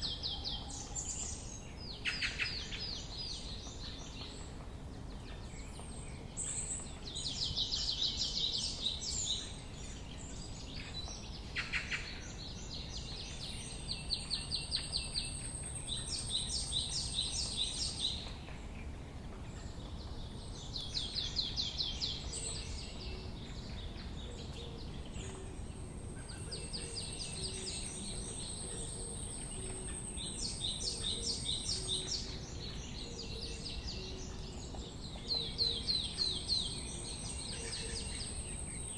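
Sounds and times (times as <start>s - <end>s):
low background noise: 0.0s - 38.9s.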